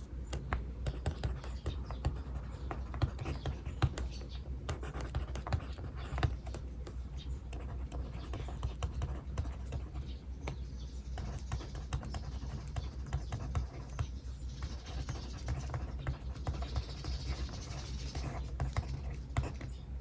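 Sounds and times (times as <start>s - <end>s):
pen scratching on paper: 0.0s - 19.7s
steady low hum: 0.0s - 20.0s.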